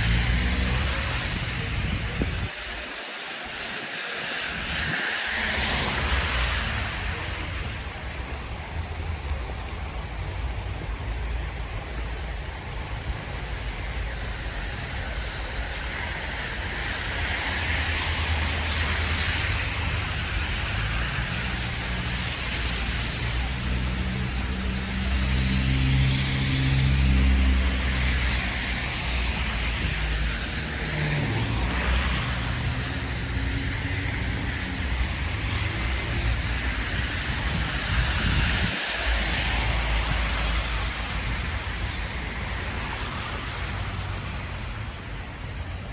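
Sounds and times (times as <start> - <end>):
cars passing with tyre hiss: 0.0 - 45.9.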